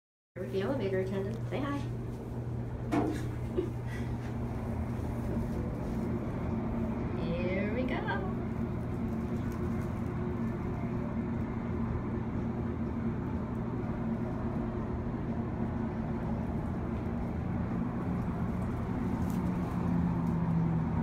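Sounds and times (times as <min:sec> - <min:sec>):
elevator humming: 0:00.4 - 0:21.0.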